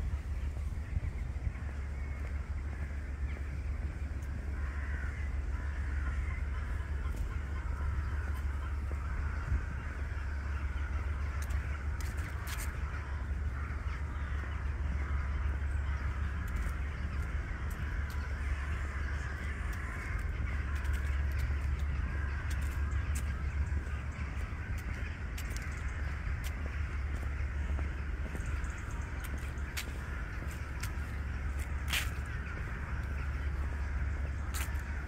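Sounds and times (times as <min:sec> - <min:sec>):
birds calling: 0:00.0 - 0:35.0
steady low rumble: 0:00.0 - 0:35.0.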